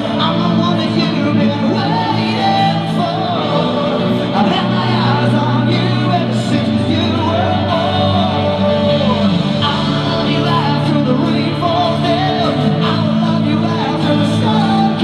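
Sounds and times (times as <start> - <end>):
rock band with singer: 0.0 - 15.0.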